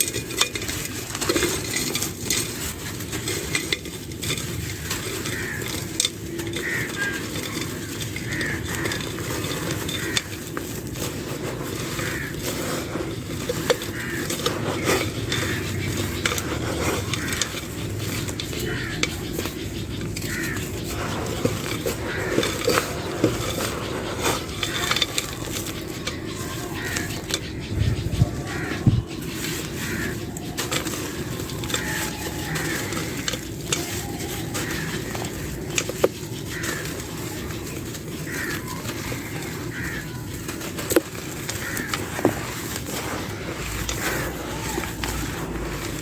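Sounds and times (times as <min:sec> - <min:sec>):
birds chirping faintly: 0:00.0 - 0:46.0
dry clay crumbling: 0:00.0 - 0:46.0.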